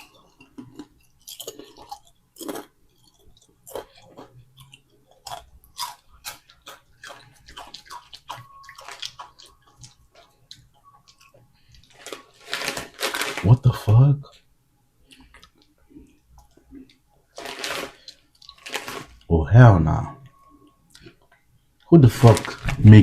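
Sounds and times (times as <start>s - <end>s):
potato chips crunching: 0.0s - 14.0s, 15.1s - 19.3s, 22.0s - 22.9s.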